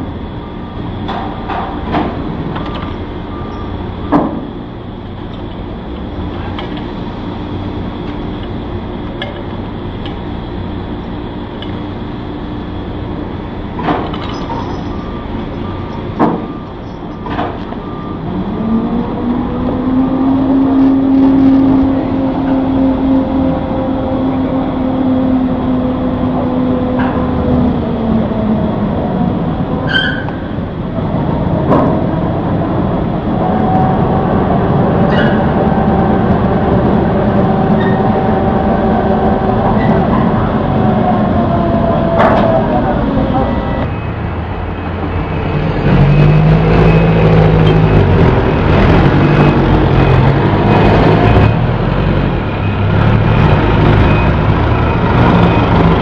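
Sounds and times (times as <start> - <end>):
crane motor whine: 0.0 - 56.0
higher motor whine: 0.0 - 56.0.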